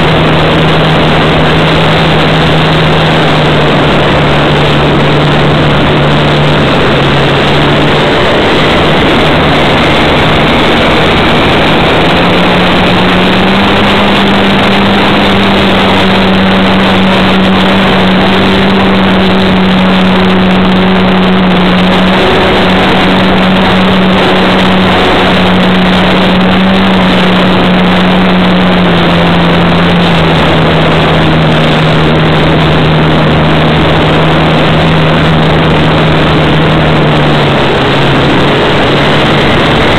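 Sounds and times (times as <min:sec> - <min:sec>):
model airplane motor drone: 0:00.0 - 0:39.9
wind noise: 0:00.0 - 0:39.9.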